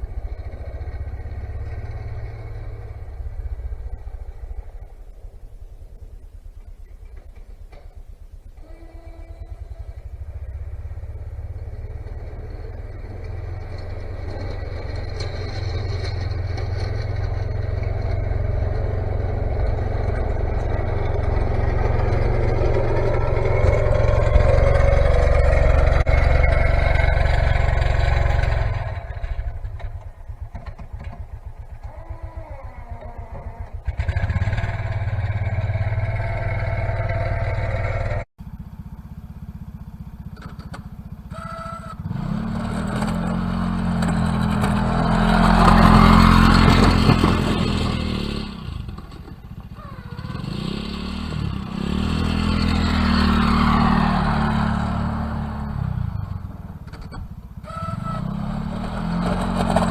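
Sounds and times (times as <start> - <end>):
vehicle engine running and revving: 0.0 - 59.9.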